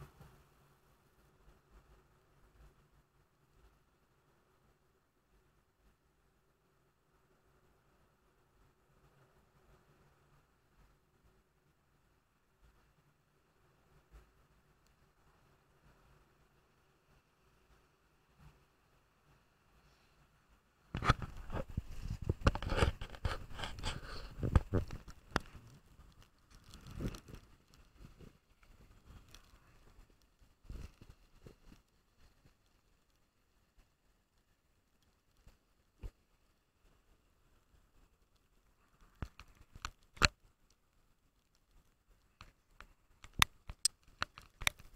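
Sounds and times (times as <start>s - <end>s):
faint hiss: 0.0s - 44.9s.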